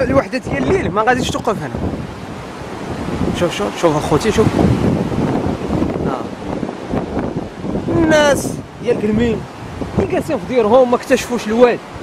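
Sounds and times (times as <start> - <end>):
floodwater rushing: 0.0 - 12.0
wind buffeting microphone: 0.0 - 12.0.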